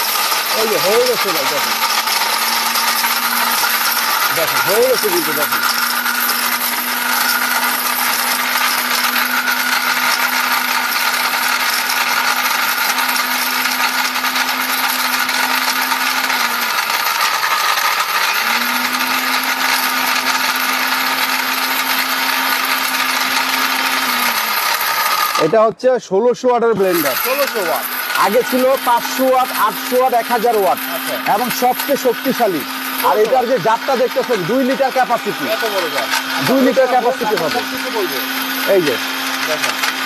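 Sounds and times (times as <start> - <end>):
blender motor grinding: 0.0 - 25.7, 26.8 - 40.0.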